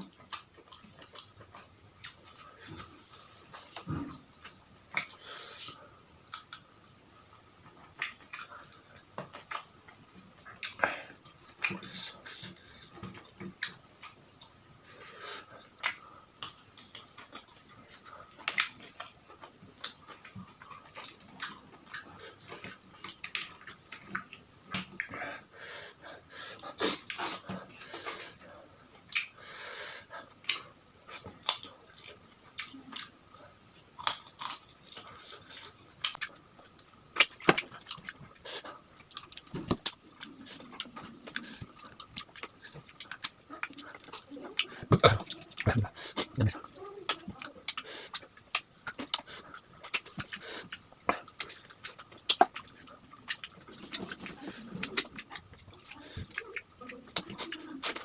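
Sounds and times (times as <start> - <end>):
chewing and crunching: 0.0 - 58.0.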